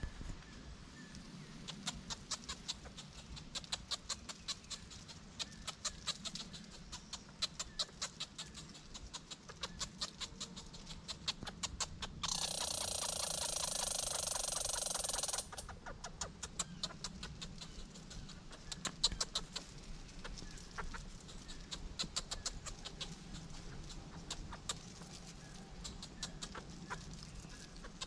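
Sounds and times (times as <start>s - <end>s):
squirrel clicking chucks: 1.5s - 28.0s.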